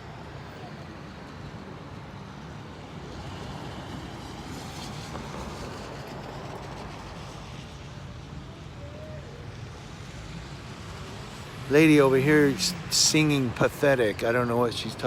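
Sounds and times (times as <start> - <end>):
traffic rumble: 0.0 - 15.0
tyres hissing on wet road: 0.0 - 15.0.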